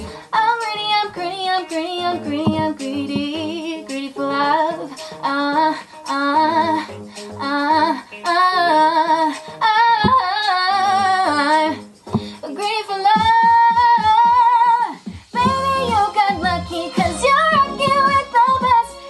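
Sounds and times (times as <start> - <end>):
backing track: 0.0 - 19.0
woman singing a pop song: 0.0 - 19.0.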